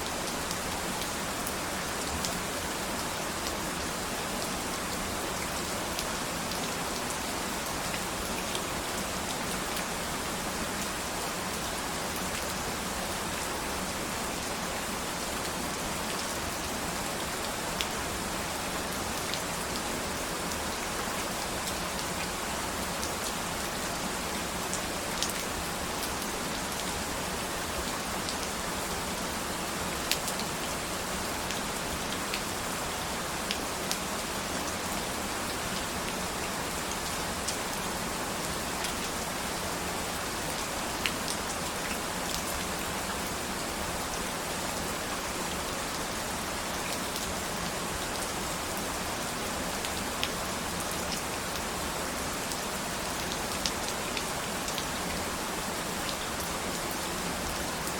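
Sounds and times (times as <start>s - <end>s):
steady rain: 0.0s - 57.9s.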